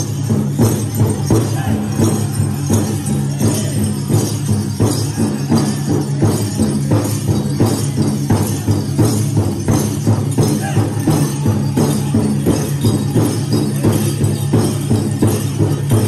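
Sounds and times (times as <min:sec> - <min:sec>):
drum group singing: 0:00.0 - 0:16.0
jingling regalia: 0:00.0 - 0:16.0
steady big drum beat: 0:00.0 - 0:16.0.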